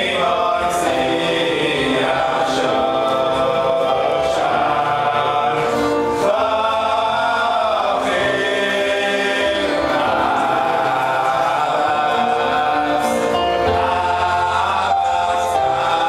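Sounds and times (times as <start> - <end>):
voices singing together: 0.0 - 16.0.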